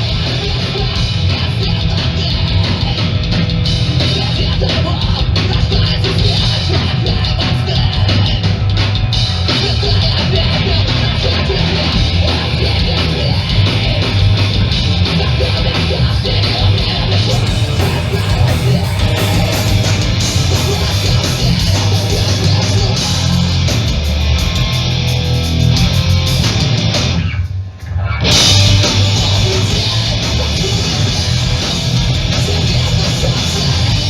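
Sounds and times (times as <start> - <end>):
punk band playing live: 0.0 - 34.0.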